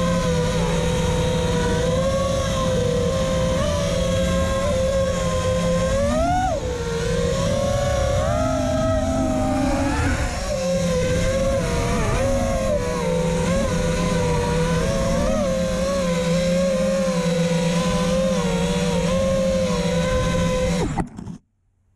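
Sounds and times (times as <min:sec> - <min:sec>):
drone motors whining: 0:00.0 - 0:21.4.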